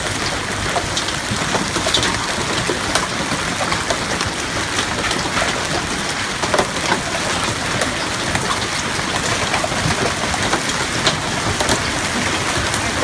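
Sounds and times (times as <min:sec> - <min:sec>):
hail pelting down: 0:00.0 - 0:13.0
sharp cracks of hail impacts: 0:00.0 - 0:13.0.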